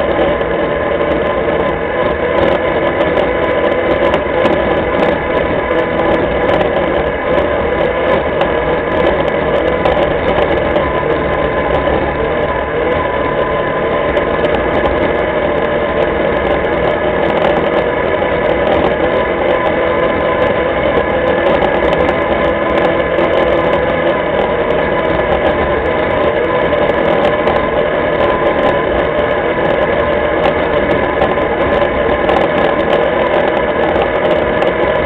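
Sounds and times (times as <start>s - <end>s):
quad bike engine running: 0.0s - 35.0s.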